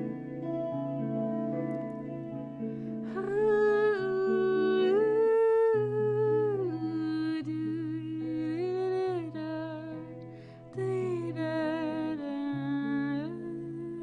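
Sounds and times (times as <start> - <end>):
soft guitar accompaniment: 0.0 - 14.0.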